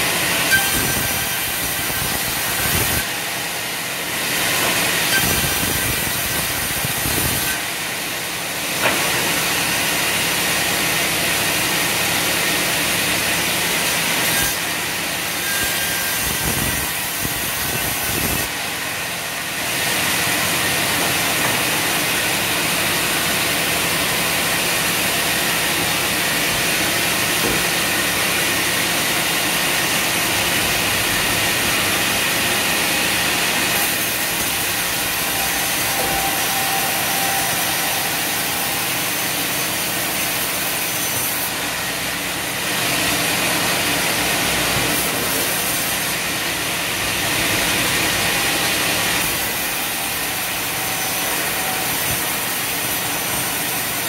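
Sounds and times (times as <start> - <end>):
band saw cutting timber: 0.0 - 54.0.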